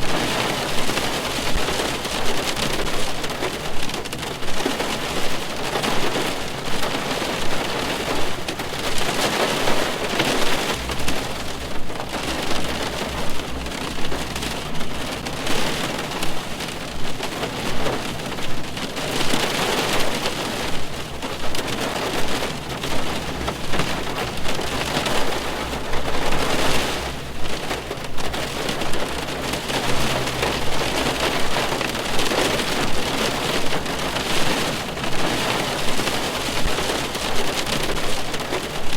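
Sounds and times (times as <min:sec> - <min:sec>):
rain on car roof: 0:00.0 - 0:38.9.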